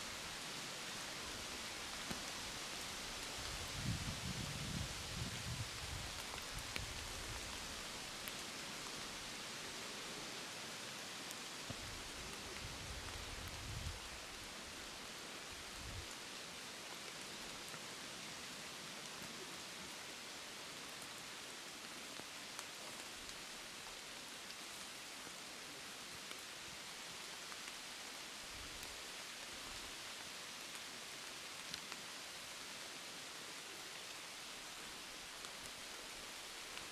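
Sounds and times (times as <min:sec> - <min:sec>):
rain falling: 0:00.0 - 0:36.9.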